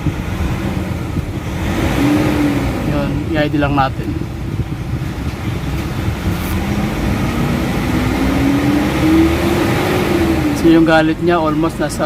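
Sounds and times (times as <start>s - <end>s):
car engine revving up: 0.0s - 12.0s.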